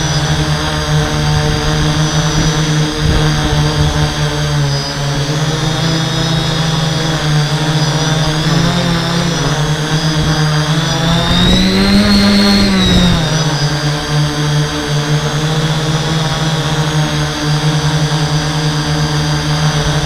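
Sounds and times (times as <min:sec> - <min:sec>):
drone motors buzzing: 0:00.0 - 0:20.0.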